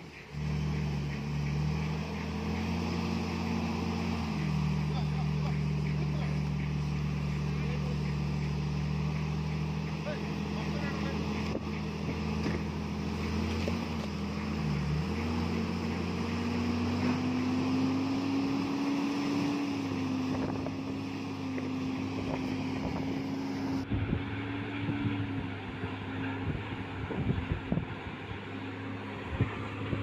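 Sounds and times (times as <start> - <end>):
wheel loader diesel engine: 0.0 - 30.0
wind: 0.0 - 30.0.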